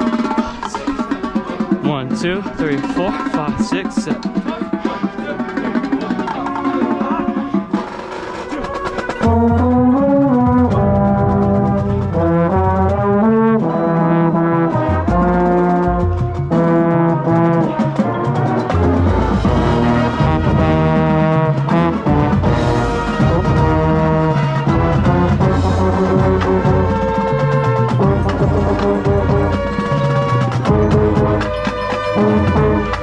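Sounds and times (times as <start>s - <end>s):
marching band brass playing: 0.0s - 33.0s.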